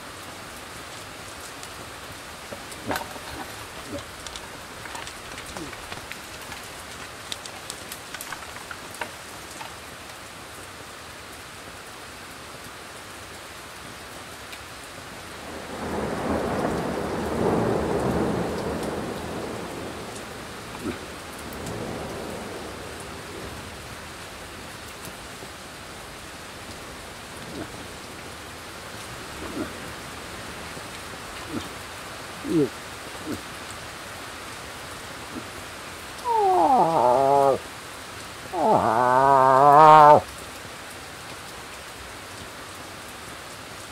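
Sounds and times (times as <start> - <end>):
wind and rain hissing: 0.0 - 43.9.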